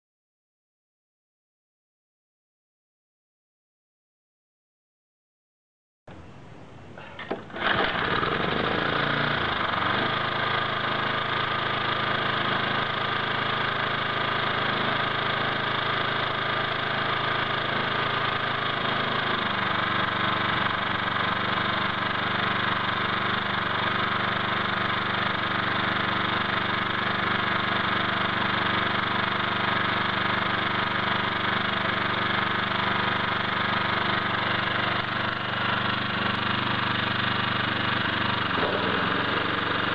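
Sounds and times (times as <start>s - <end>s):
small petrol engine starting: 6.9s - 39.9s.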